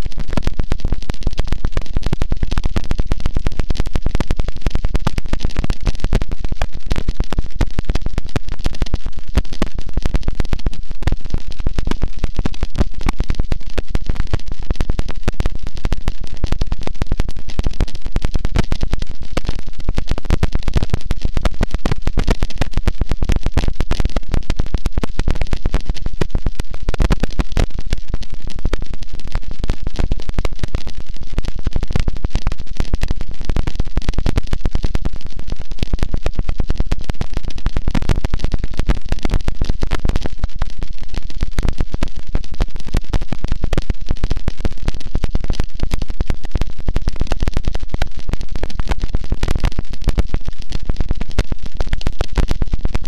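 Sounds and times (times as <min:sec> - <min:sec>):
dense distorted static: 0:00.0 - 0:53.0.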